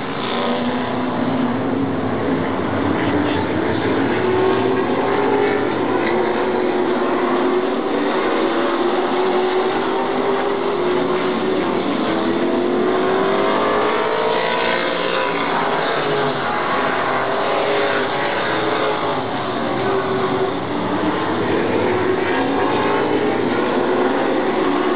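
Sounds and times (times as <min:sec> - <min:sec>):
race car engines: 0:00.0 - 0:24.9.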